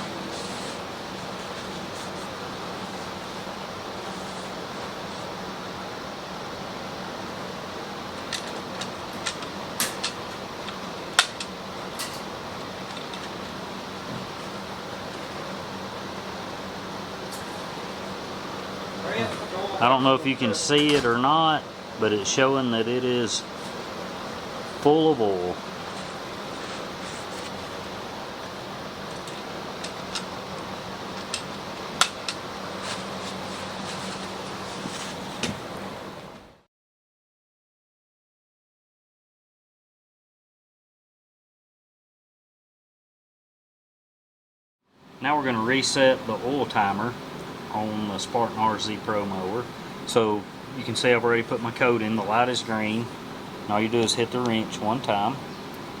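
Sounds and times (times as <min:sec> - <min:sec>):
steady hiss: 0:00.0 - 0:36.5, 0:45.0 - 0:56.0
faint hum: 0:00.0 - 0:36.6, 0:45.0 - 0:56.0.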